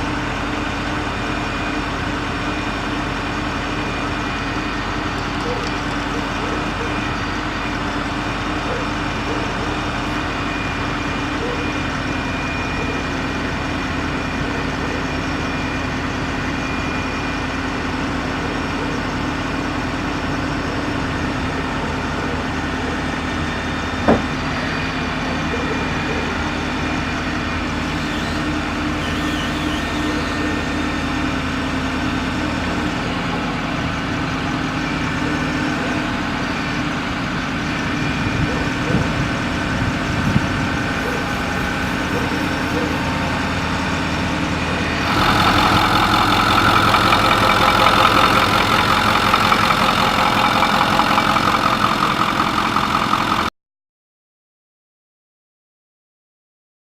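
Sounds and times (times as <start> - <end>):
diesel engine running: 0.0 - 53.5.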